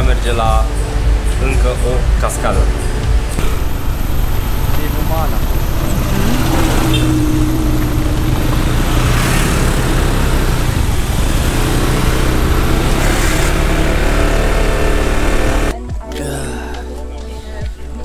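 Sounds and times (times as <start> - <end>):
vehicle engine and road noise: 0.0 - 15.8.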